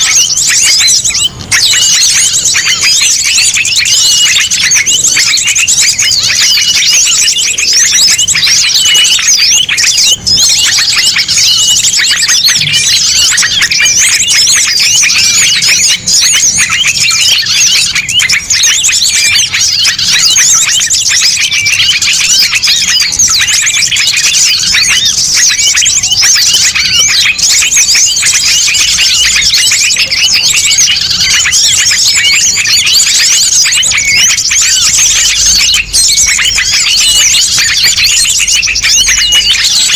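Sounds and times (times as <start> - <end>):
chorus of songbirds chirping: 0.0 - 39.9.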